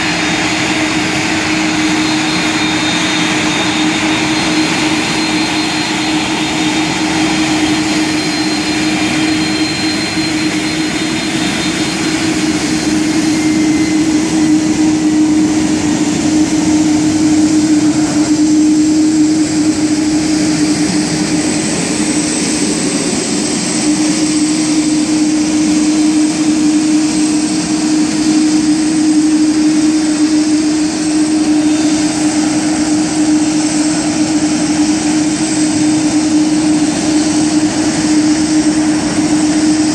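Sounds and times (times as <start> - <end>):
jet engines at taxi power: 0.0 - 39.9.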